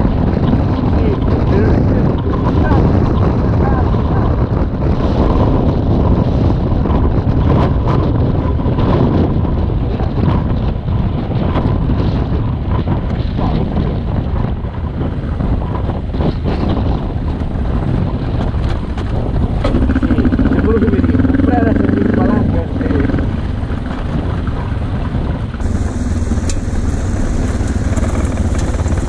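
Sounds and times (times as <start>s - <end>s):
motorcycle engine running: 0.0s - 29.0s
wind buffeting microphone: 0.0s - 29.0s.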